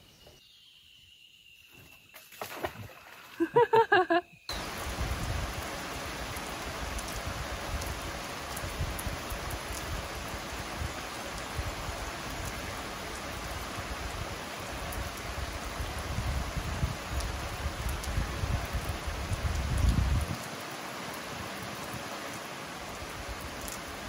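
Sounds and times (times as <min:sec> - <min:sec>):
heavy rain on water and concrete: 0:03.4 - 0:24.0.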